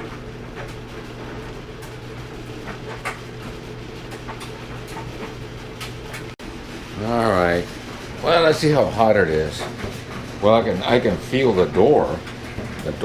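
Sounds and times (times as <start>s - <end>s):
clothes dryer motor hum: 0.0s - 13.0s.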